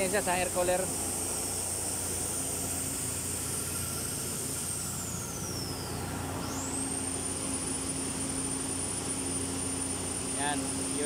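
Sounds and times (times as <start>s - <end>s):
high whine sliding in pitch: 0.0s - 11.0s
machinery humming: 0.0s - 11.0s.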